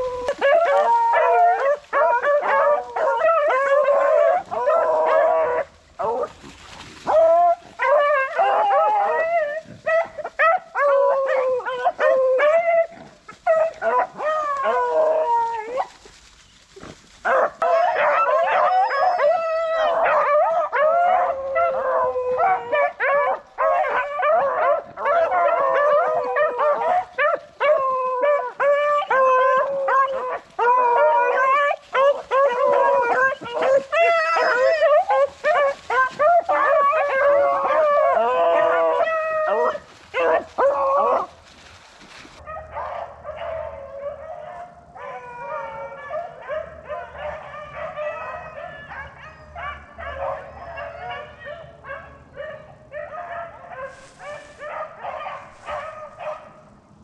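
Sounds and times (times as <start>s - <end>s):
pack of dogs baying: 0.0s - 16.1s, 17.2s - 56.8s.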